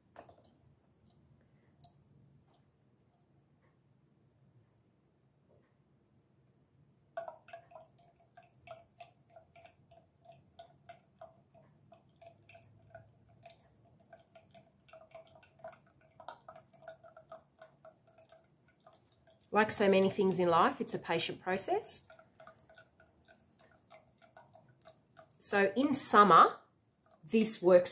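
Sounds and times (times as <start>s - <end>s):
oil dripping into metal bowl: 0.0s - 3.3s, 7.1s - 26.1s, 27.0s - 27.6s.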